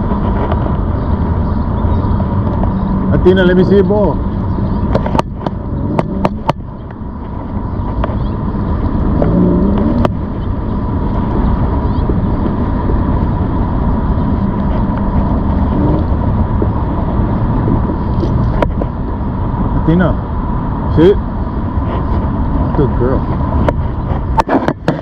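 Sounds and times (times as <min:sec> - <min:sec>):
wind and road noise rumble: 0:00.0 - 0:25.0.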